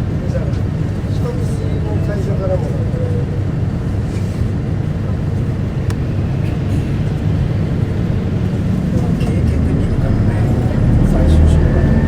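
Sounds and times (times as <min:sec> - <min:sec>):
bus diesel engine: 0:00.0 - 0:12.0
road rumble: 0:00.0 - 0:12.0.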